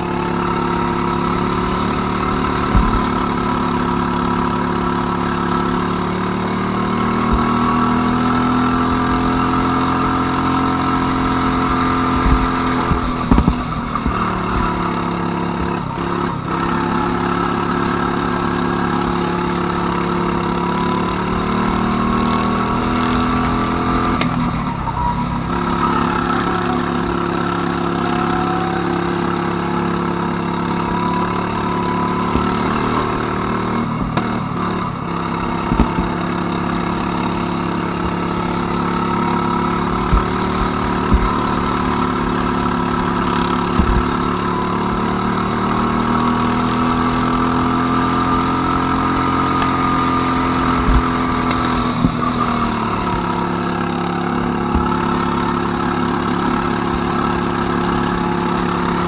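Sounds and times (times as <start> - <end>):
go-kart engines revving: 0.0 - 59.0.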